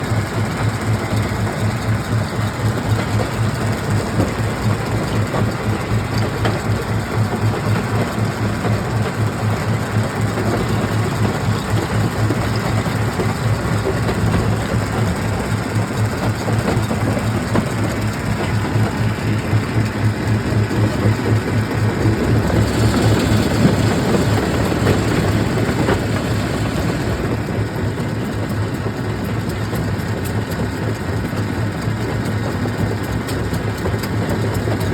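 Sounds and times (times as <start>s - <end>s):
stone-crushing machinery rumbling: 0.1s - 34.9s.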